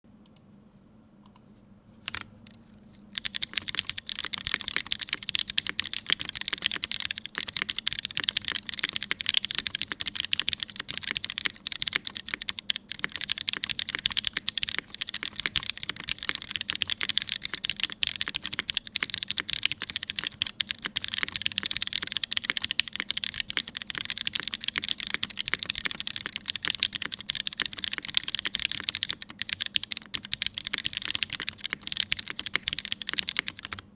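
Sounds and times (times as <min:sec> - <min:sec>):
fast mechanical keyboard typing: 0:03.2 - 0:33.9.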